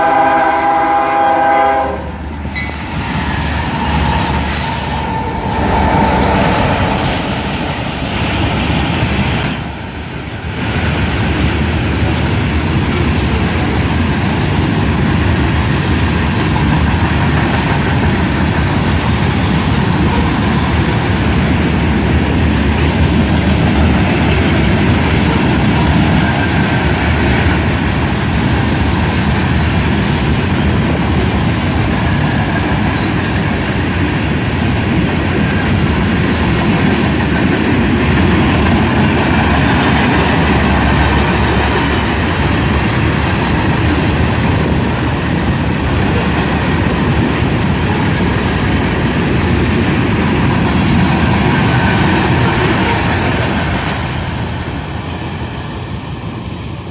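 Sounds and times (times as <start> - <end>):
train wheels clattering over rails: 2.3 - 55.6.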